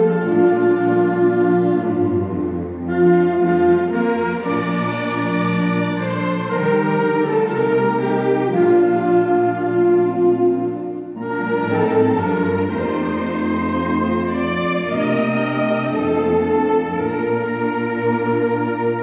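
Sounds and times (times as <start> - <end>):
wind band playing slow chords: 0.0 - 19.0.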